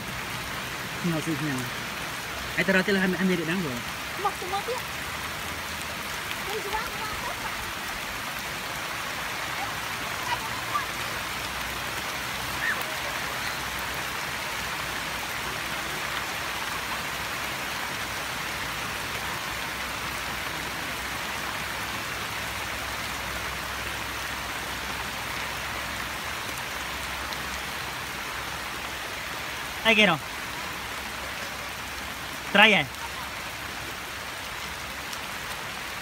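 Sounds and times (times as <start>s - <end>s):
rain pattering on water: 0.0s - 36.0s.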